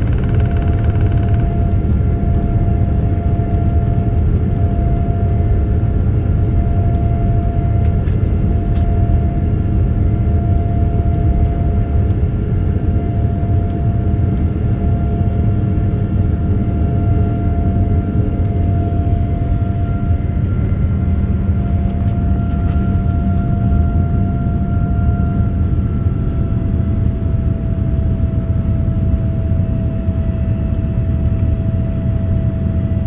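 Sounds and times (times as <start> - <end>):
jet engine rumble: 0.0 - 33.0
steady hum tone: 0.0 - 33.0.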